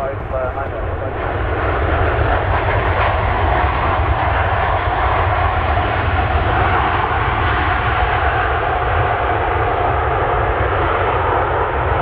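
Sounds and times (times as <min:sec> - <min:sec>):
airliner engines roaring: 0:00.0 - 0:12.0.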